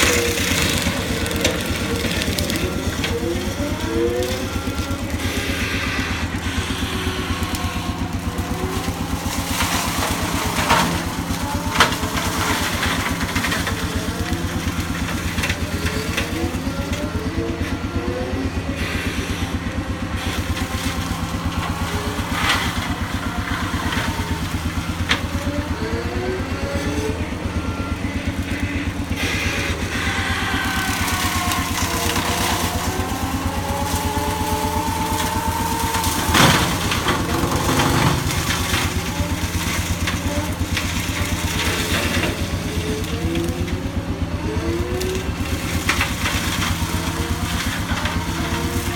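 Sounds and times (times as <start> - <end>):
skid steer engine running: 0.0 - 48.9.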